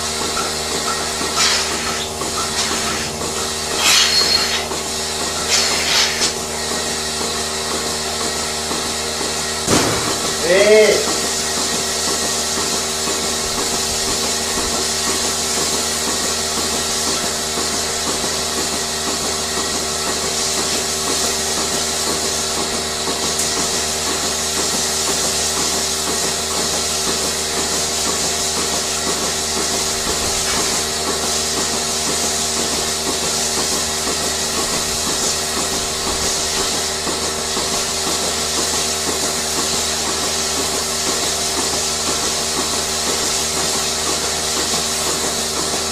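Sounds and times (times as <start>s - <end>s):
loud machinery hiss: 0.0s - 45.9s
machinery hums: 0.0s - 45.9s.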